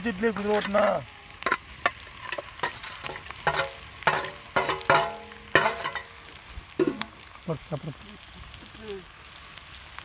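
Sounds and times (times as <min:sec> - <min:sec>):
light sizzle: 0:00.0 - 0:10.0.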